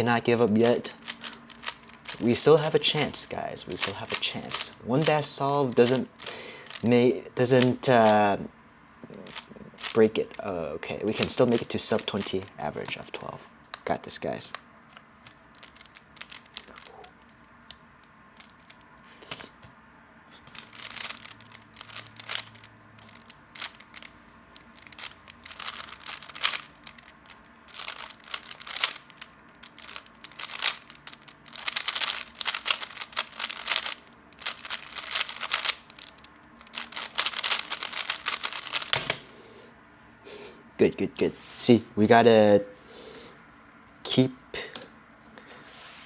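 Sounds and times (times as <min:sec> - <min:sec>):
puzzle cube clacking: 0:00.0 - 0:08.3, 0:09.0 - 0:14.6, 0:15.2 - 0:19.7, 0:20.5 - 0:39.3.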